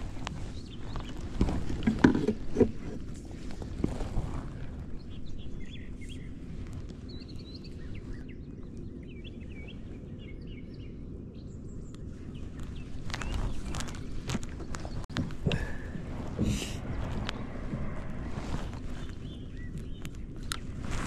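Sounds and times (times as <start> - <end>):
low rumble: 0.0 - 21.0
small birds chirping: 0.0 - 21.0.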